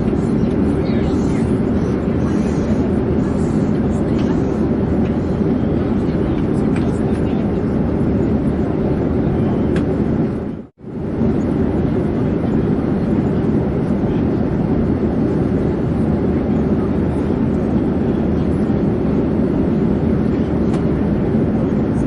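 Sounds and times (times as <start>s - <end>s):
airplane drone: 0.0s - 22.0s.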